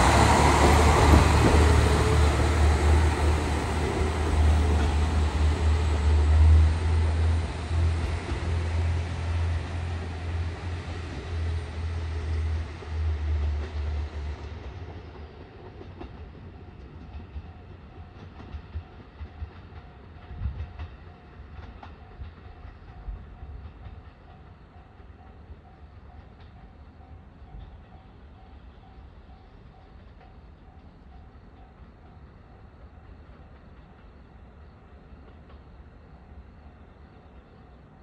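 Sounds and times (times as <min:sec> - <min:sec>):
diesel railcar engine rumble: 0:00.0 - 0:38.0.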